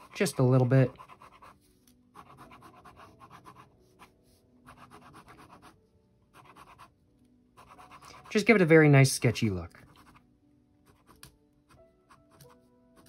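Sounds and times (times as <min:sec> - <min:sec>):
pen scratching on paper: 0:00.0 - 0:06.9, 0:07.6 - 0:08.5, 0:09.7 - 0:10.2, 0:10.8 - 0:13.0.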